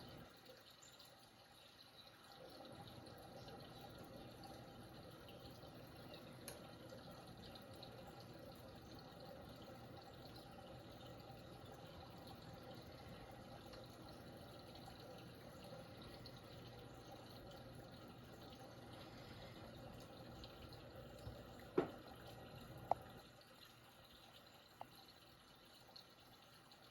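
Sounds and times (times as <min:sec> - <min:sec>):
faint water trickle: 0:00.0 - 0:26.9.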